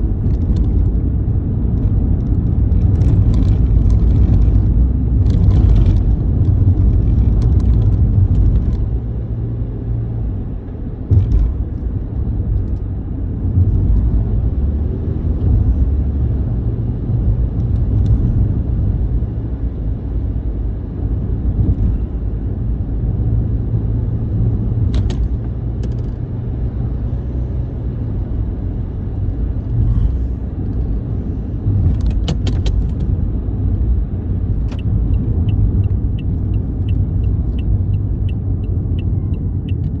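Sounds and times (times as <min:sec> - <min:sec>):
vehicle road rumble: 0:00.0 - 0:40.0.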